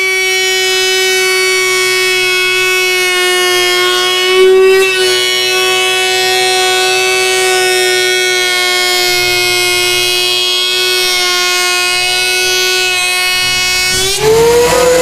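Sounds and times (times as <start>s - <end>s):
surface planer high-pitched whine: 0.0s - 15.0s.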